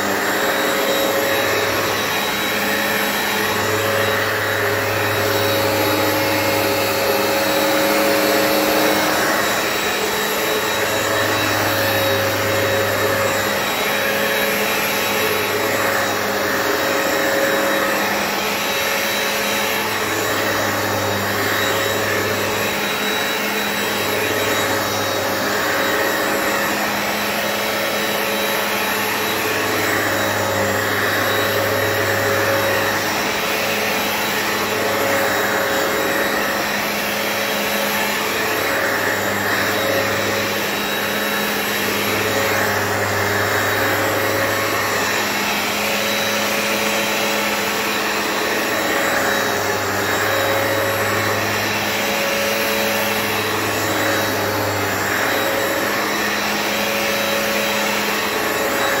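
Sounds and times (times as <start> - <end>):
carpet cleaner motor running: 0.0 - 59.0.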